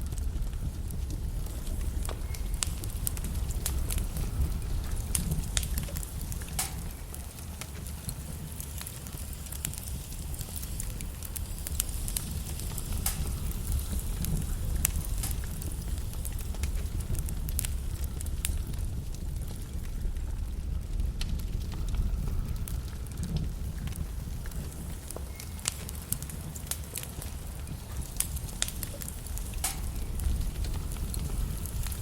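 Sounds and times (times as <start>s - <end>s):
logs crackling and popping: 0.0s - 32.0s
low rumble of flames: 0.0s - 32.0s.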